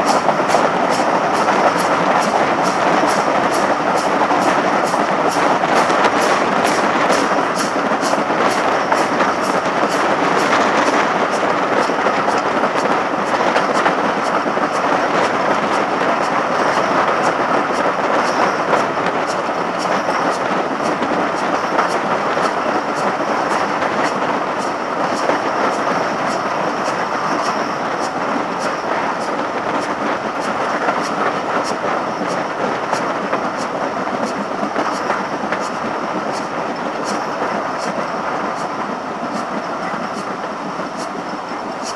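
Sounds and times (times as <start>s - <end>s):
fast regular rail clicks: 0.0s - 41.9s
train wheel and wind rush: 0.0s - 41.9s.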